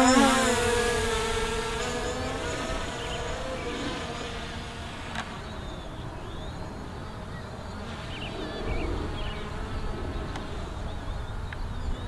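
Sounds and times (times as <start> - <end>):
drone propellers buzzing: 0.0 - 12.0
wind rumble on microphone: 0.0 - 12.0.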